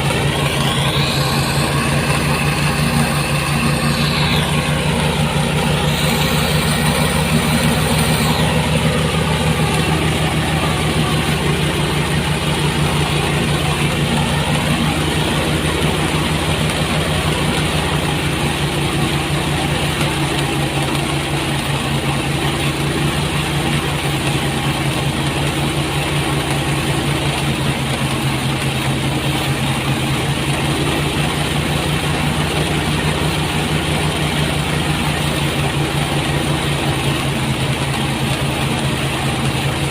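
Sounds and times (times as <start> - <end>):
threshing machine engine drone: 0.0 - 39.9.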